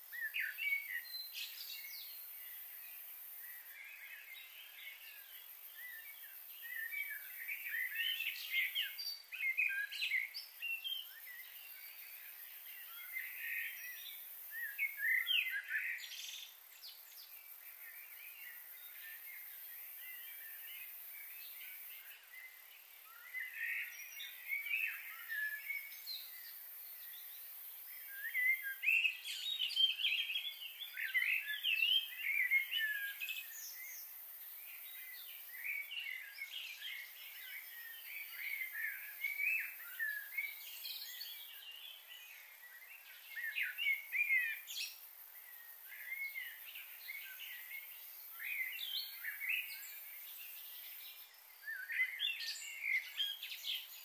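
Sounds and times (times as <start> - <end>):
faint steady hiss: 0.0 - 54.0
small birds chirping: 0.0 - 54.0.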